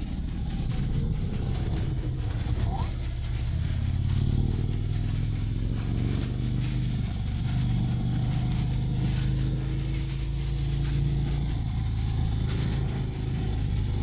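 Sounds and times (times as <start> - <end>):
motorcycle engine running: 0.0 - 14.0
steady rushing noise: 0.0 - 14.0.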